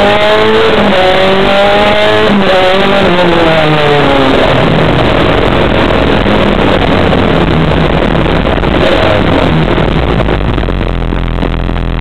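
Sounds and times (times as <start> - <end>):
car engine running hard: 0.0 - 12.0
road and wind noise: 0.0 - 12.0.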